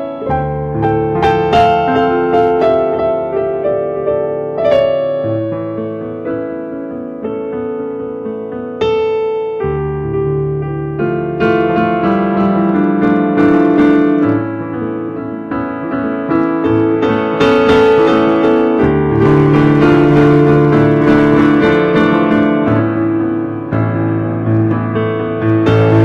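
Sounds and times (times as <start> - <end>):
piano playing slow chords: 0.0 - 26.0.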